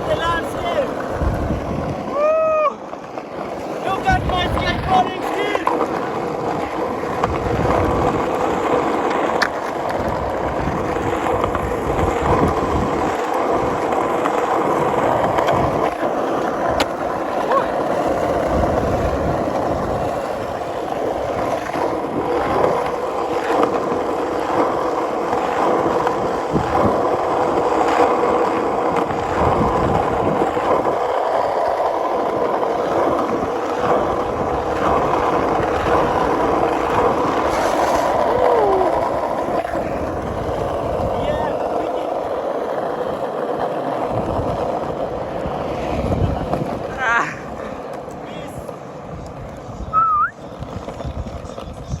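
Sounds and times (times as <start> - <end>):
skateboard wheels rolling on road: 0.0 - 52.0.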